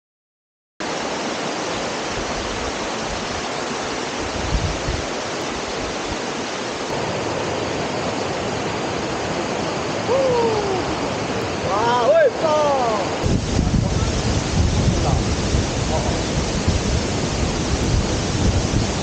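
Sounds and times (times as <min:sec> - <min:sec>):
waterfall rushing: 0:00.8 - 0:19.0.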